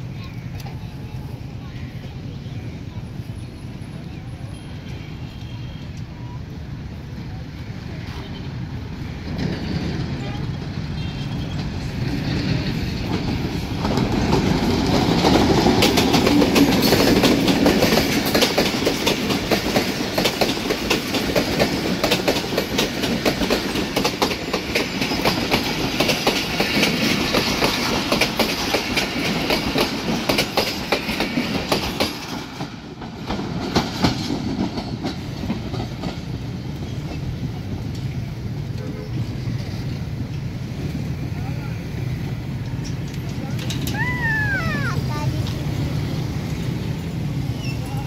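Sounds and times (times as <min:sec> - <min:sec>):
train wheels clattering on rails: 0:07.9 - 0:48.0.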